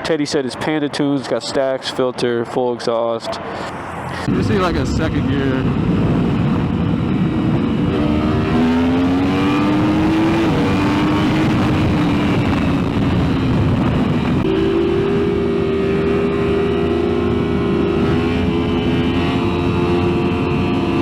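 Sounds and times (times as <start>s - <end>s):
motorcycle engine revving: 3.9s - 21.0s.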